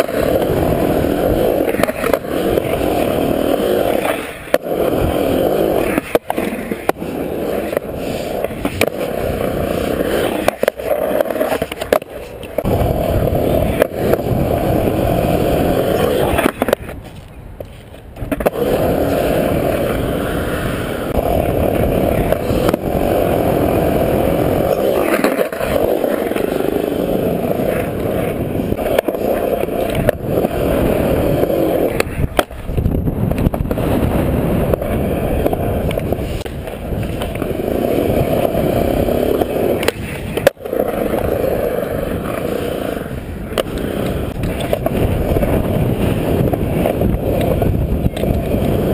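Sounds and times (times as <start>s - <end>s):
skateboard clacks: 0.0s - 48.9s
skateboard wheels rolling on concrete: 0.0s - 48.9s.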